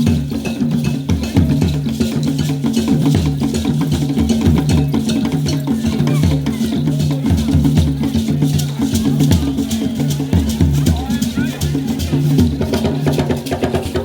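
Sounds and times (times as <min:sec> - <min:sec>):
fast percussion beat: 0:00.0 - 0:14.0.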